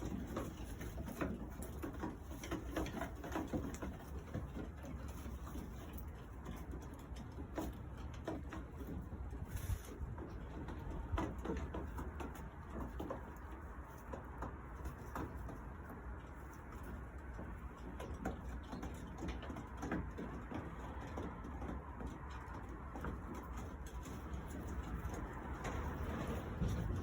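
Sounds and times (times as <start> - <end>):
taps and rustles: 0.0 - 27.0.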